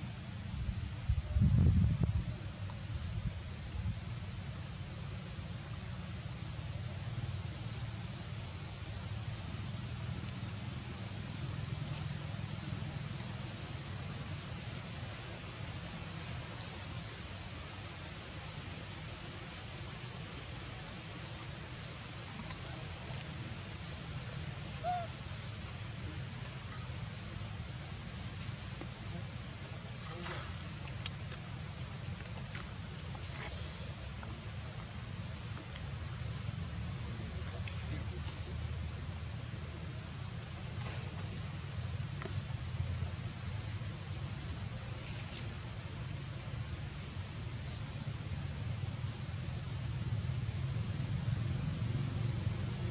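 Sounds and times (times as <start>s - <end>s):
insect chorus: 0.0s - 52.9s.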